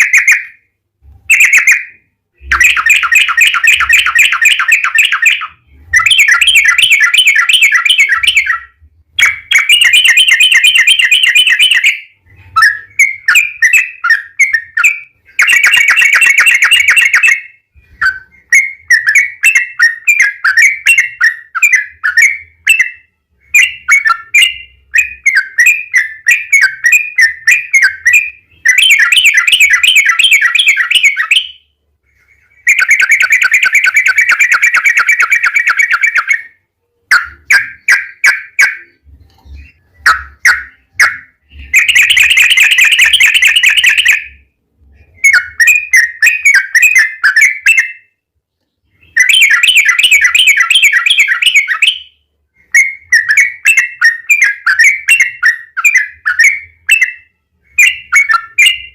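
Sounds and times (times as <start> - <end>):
bulbul singing: 0.0 - 58.9.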